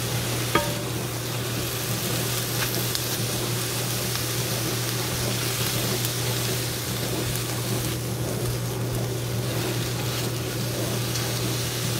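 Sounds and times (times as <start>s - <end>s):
vegetables sizzling in pan: 0.0s - 11.9s.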